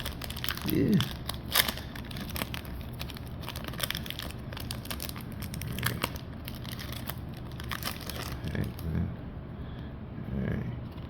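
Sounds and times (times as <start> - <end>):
foil wrappers crinkling: 0.0 - 8.9.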